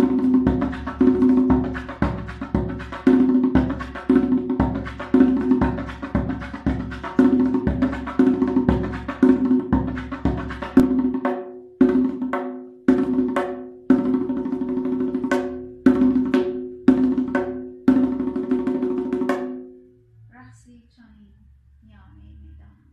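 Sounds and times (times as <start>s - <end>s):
hand drum played with fingers: 0.0s - 19.7s.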